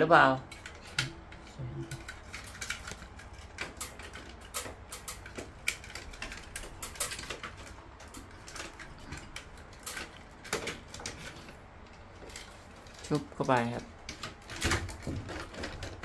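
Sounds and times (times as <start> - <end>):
plastic connectors clicking: 0.5 - 16.0.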